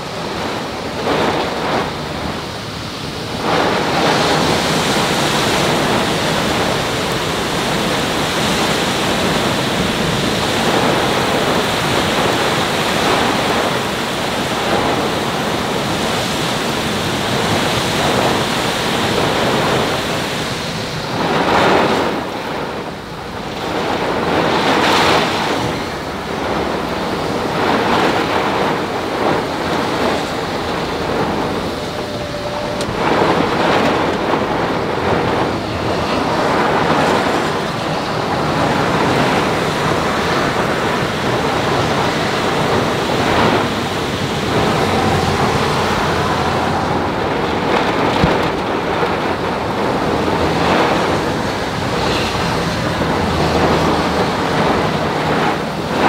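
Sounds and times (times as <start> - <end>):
gusting wind: 0.0 - 56.0
heavy rain on car roof: 0.0 - 56.0.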